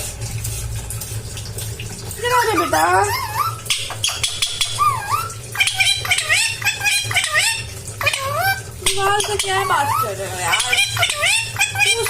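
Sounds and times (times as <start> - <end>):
parrot chattering: 2.2 - 12.0.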